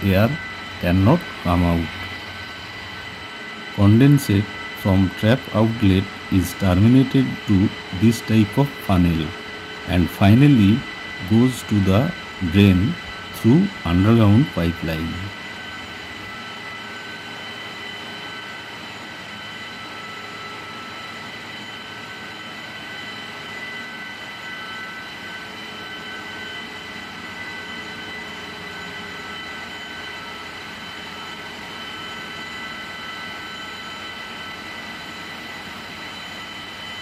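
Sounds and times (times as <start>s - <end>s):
high whining tones: 0.0s - 37.0s
industrial machinery drone: 0.0s - 37.0s.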